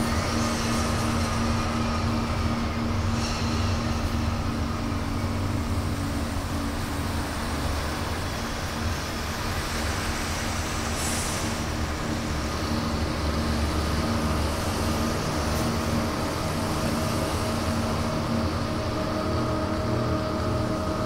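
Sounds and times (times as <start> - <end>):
steady humming tones: 0.0 - 21.0.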